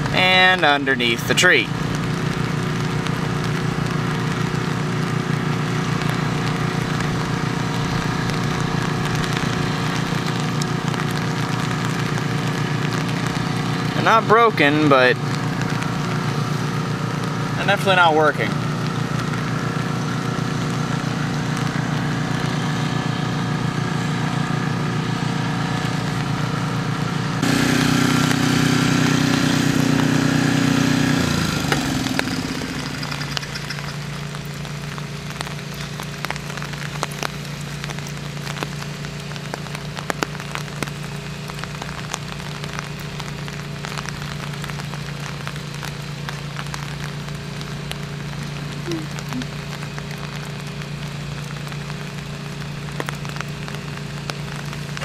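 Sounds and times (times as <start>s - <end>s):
drops ticking: 0.0s - 22.4s, 31.2s - 55.0s
engine running: 0.0s - 55.0s
rain falling: 0.0s - 55.0s.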